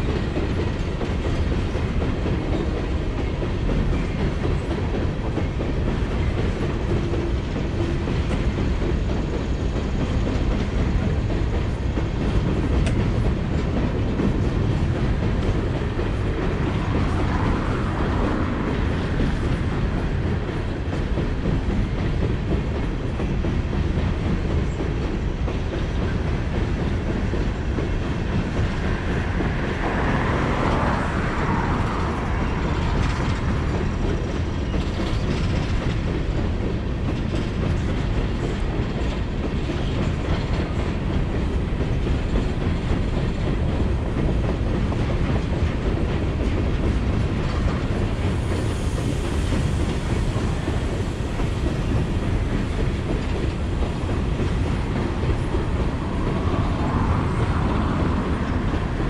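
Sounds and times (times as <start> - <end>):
freight train wheels on rail: 0.0 - 59.0.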